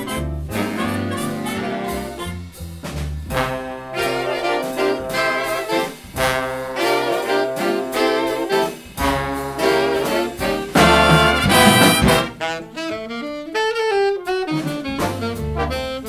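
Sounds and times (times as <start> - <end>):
jazz big band playing: 0.0 - 16.0.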